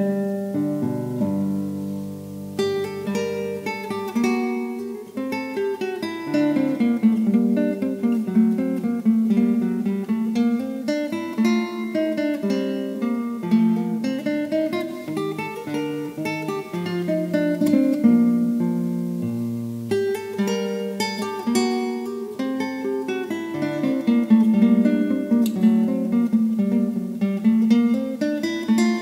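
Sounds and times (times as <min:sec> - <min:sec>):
plucked acoustic guitar tune: 0:00.0 - 0:29.0.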